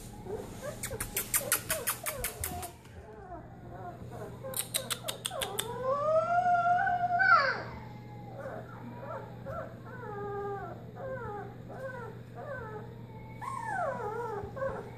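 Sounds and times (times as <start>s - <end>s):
puppy whimpering: 0.0s - 14.9s.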